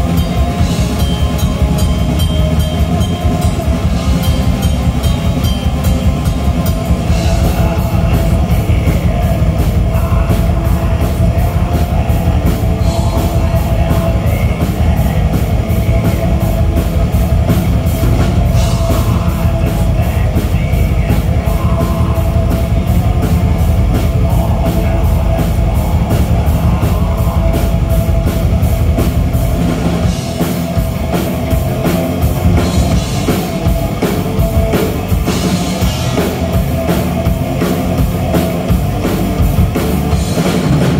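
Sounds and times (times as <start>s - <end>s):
bass guitar: 0.0s - 40.9s
distorted electric guitars: 0.0s - 40.9s
fast drumming: 0.0s - 40.9s.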